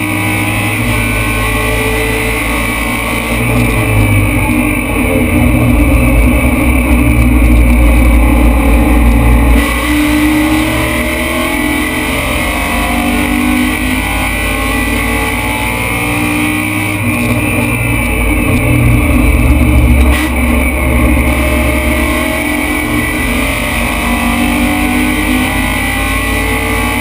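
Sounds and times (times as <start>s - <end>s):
race car engine under throttle: 0.0s - 27.0s.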